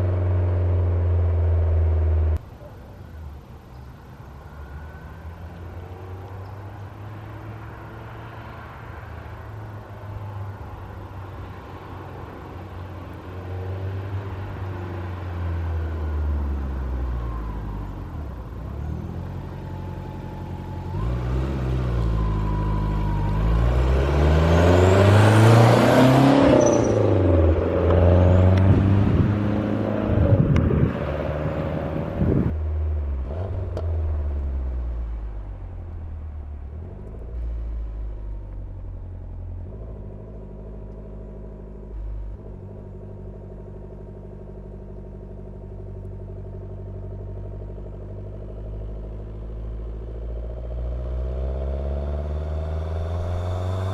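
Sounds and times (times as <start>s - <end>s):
car engine driven hard: 0.0s - 2.4s, 4.4s - 53.9s.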